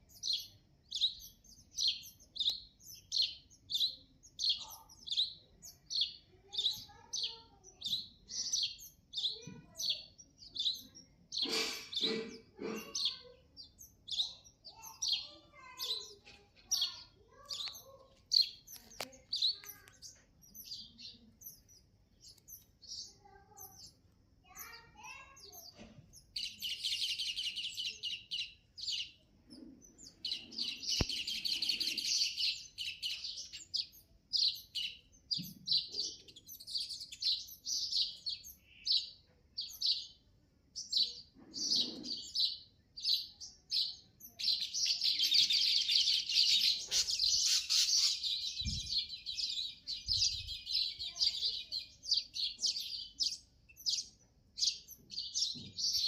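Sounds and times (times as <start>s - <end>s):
songbird chirping and trilling: 0.0s - 56.0s.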